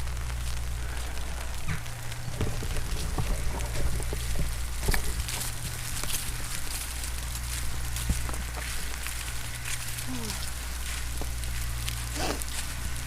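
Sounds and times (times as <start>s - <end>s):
low rumble: 0.0s - 13.0s
rain falling: 0.0s - 13.0s
raindrops tapping: 0.0s - 13.0s.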